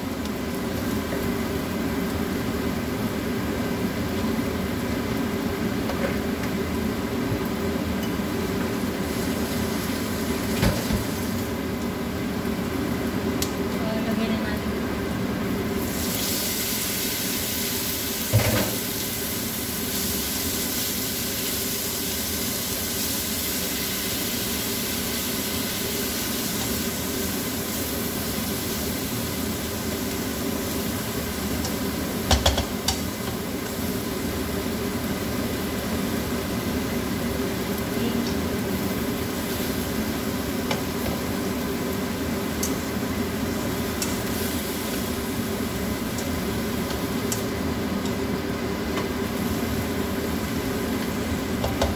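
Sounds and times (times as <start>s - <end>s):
meat sizzling in a wok: 0.0s - 51.9s.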